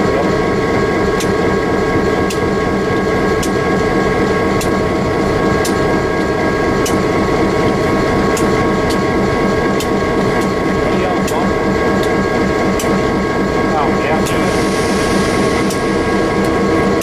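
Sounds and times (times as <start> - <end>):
steady whine: 0.0 - 17.0
train rumbling: 0.0 - 17.0.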